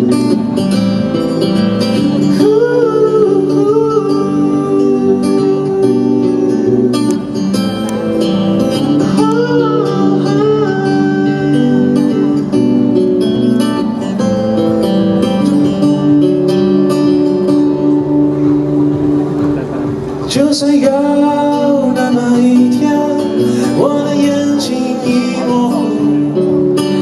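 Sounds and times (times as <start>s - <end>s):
acoustic guitar playing: 0.0s - 27.0s
held chords: 0.0s - 27.0s.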